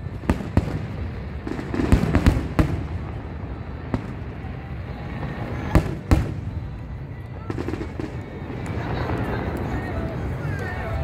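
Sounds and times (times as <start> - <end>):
fireworks bangs: 0.0 - 11.0
low rumble of fireworks: 0.0 - 11.0.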